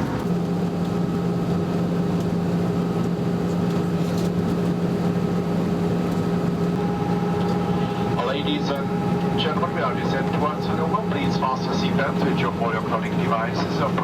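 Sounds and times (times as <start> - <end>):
airplane cabin noise: 0.0 - 14.0.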